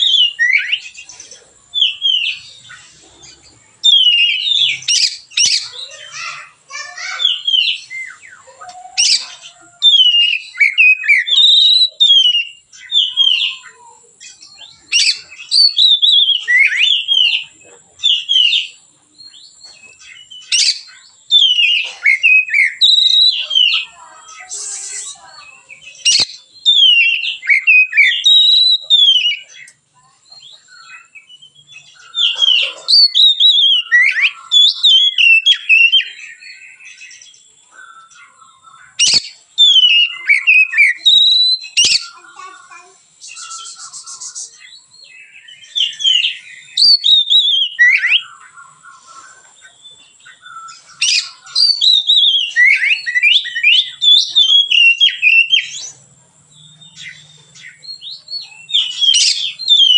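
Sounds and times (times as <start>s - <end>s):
bird singing whistled phrases: 0.0s - 2.9s, 3.8s - 56.0s, 56.6s - 59.9s.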